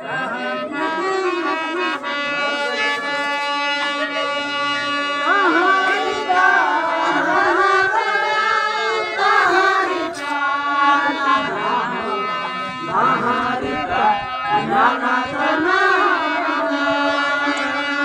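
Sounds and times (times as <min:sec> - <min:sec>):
people singing: 0:00.0 - 0:03.6, 0:05.0 - 0:18.0
keyboard chords: 0:00.0 - 0:18.0.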